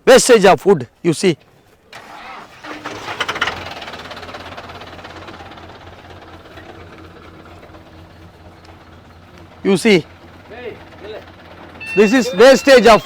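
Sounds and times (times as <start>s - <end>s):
engine humming: 1.4s - 13.0s.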